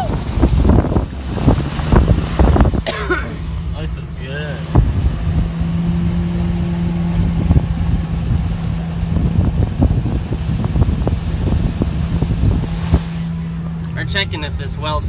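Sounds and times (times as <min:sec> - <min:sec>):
diesel pickup engine drone: 0:00.0 - 0:15.0.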